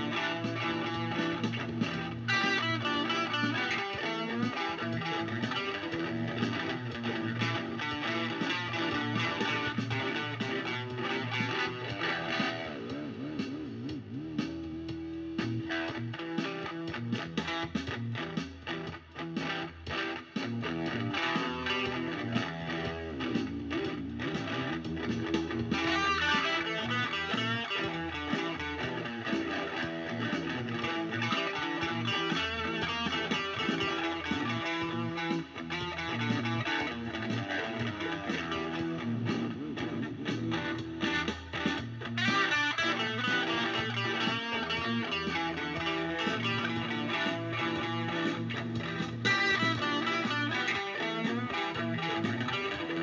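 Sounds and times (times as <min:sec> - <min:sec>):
steady low bass line: 0:00.0 - 0:18.7, 0:20.4 - 0:53.0
electric guitar playing: 0:00.0 - 0:53.0.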